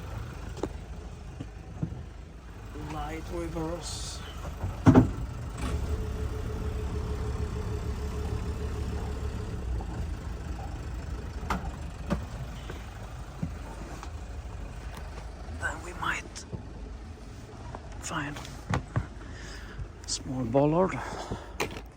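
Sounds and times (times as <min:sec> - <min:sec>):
boat engine low rumble: 0:00.0 - 0:21.9.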